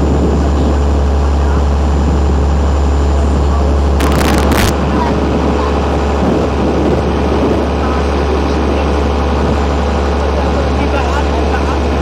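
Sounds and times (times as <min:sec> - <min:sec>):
boat engine droning: 0:00.0 - 0:12.0
water noise: 0:00.0 - 0:12.0
wind: 0:00.0 - 0:12.0.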